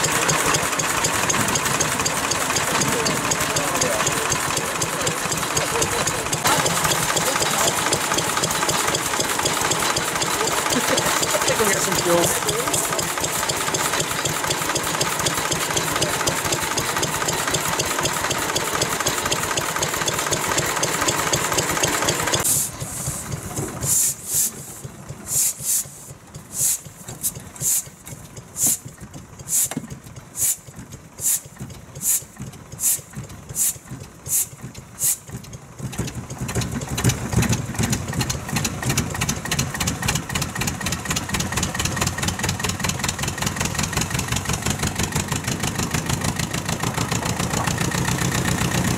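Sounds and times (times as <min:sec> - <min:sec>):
deep steady engine: 0:00.0 - 0:48.9
fast-running engine: 0:00.0 - 0:48.9
slow engine firing in beats: 0:00.0 - 0:48.9.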